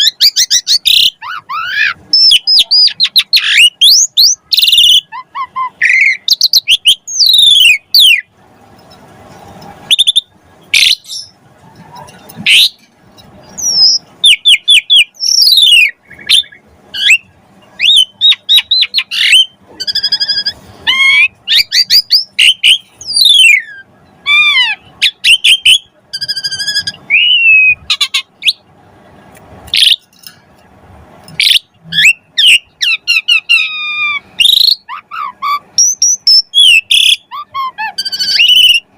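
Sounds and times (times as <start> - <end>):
starling singing: 0.0 - 8.3, 9.8 - 28.7, 29.7 - 30.3, 31.3 - 38.9.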